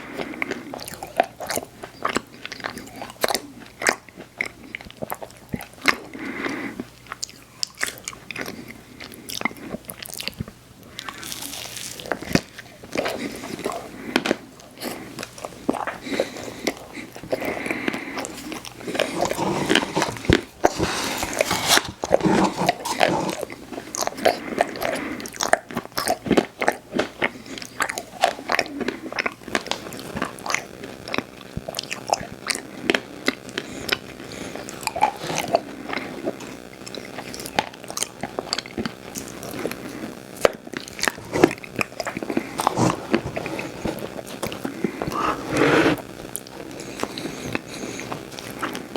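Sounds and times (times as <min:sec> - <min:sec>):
biting and chewing ice cream: 0:00.0 - 0:48.9.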